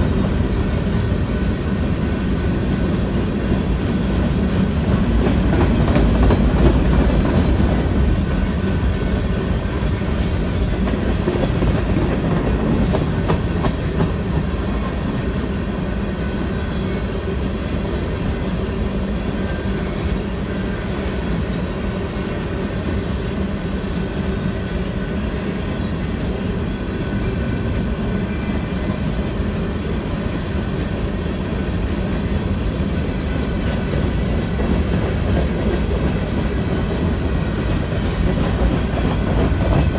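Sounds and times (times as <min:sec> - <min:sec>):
railroad cars rumbling past: 0:00.0 - 0:39.9.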